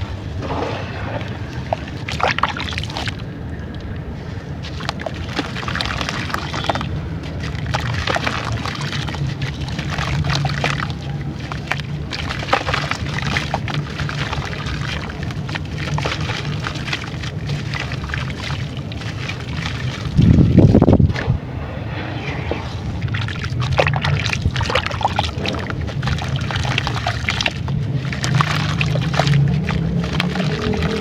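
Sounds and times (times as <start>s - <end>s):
steady low hum: 0.0s - 28.8s
clay crackling in water: 0.0s - 31.0s.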